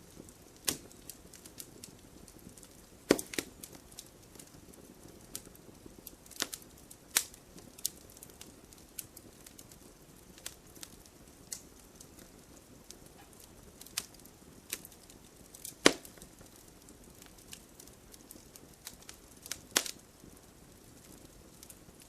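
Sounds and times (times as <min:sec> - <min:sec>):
low hiss: 0:00.0 - 0:22.0
wood fire crackling: 0:00.0 - 0:22.0.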